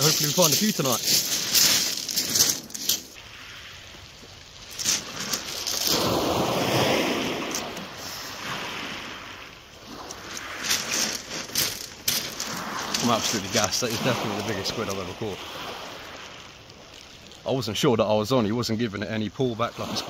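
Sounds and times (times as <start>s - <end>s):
sea wave washing on beach: 0.0s - 17.8s, 19.3s - 20.0s.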